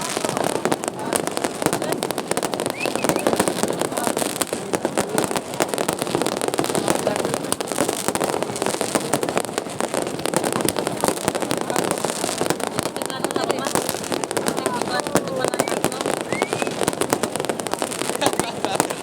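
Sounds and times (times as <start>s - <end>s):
fireworks popping and banging: 0.0s - 19.0s.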